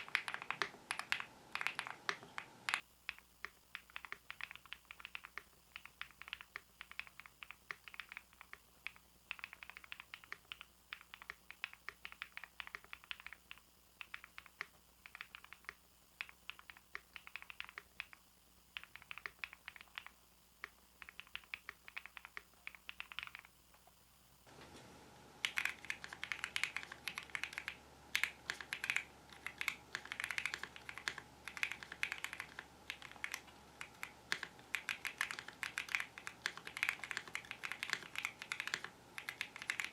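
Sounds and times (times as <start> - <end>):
fast typing on mechanical keyboard: 0.0 - 18.2, 18.8 - 20.2, 21.0 - 23.5, 25.4 - 39.9
steady background hiss: 0.0 - 39.9.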